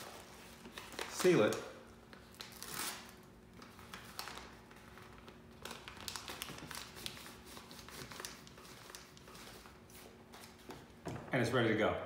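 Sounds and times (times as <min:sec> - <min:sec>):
paper envelope rustling and crinkling: 0:00.0 - 0:10.8.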